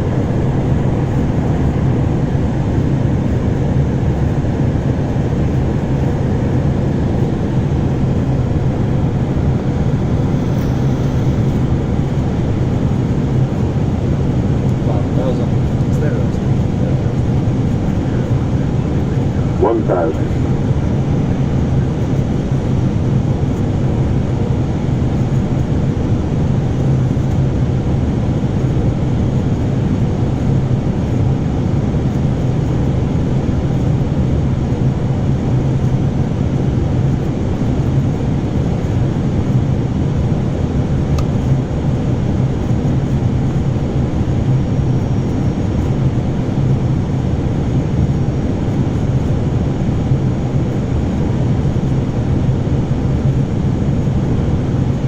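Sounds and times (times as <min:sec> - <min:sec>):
airflow and engine rush: 0:00.0 - 0:55.0.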